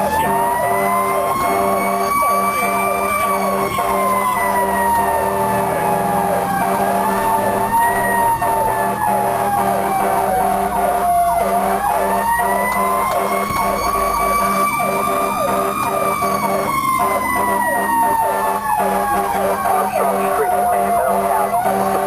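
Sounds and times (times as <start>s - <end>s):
fast sweeping siren: 0.0s - 22.0s
slow winding siren: 0.0s - 22.0s.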